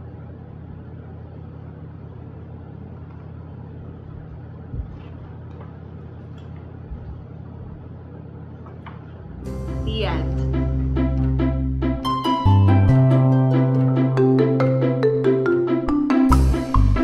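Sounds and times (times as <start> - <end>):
low background hum: 0.0 - 15.8.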